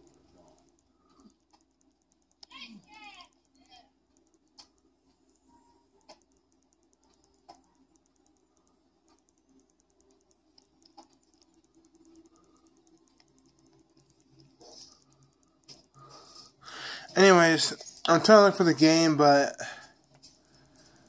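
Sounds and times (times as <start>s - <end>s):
faint irregular clicks: 0.0s - 21.0s.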